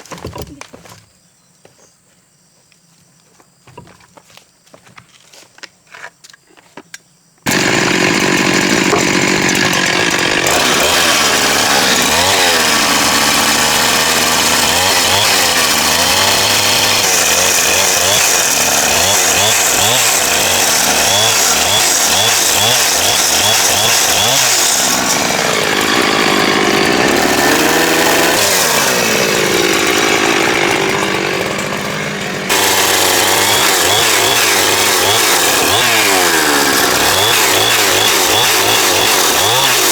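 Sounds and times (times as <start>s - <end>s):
chainsaw cutting wood: 7.4s - 39.9s.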